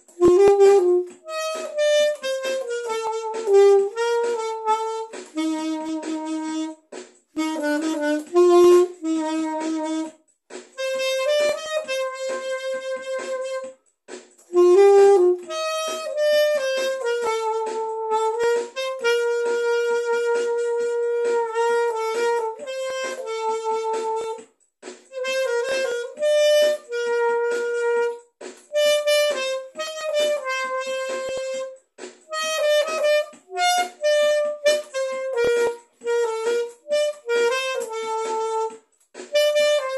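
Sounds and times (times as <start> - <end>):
wind instrument slow melody: 0.0 - 10.2, 14.5 - 24.4, 25.1 - 39.9.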